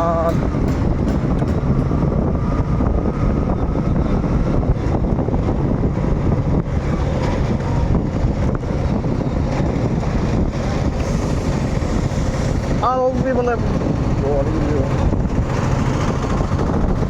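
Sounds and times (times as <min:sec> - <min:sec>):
motorcycle engine running: 0:00.0 - 0:17.0
wind on microphone: 0:00.0 - 0:17.0.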